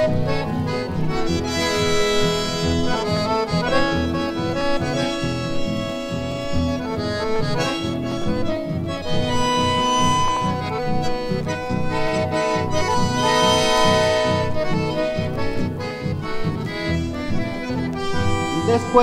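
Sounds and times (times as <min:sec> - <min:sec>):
accordion melody: 0:00.0 - 0:19.0
guitars strumming rhythm: 0:00.0 - 0:19.0.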